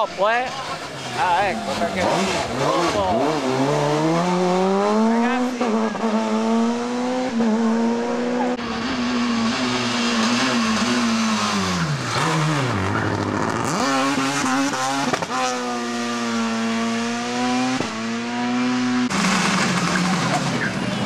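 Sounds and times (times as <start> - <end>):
rally car engine revving: 0.1 - 21.0.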